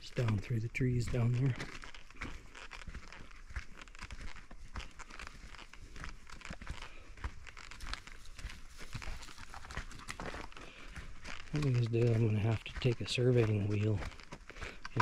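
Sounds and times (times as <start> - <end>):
footsteps crunching on dirt: 0.0 - 15.0.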